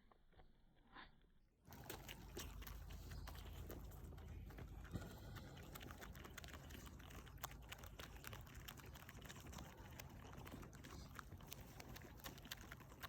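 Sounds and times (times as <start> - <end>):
chickens pecking and scratching: 1.7 - 13.0.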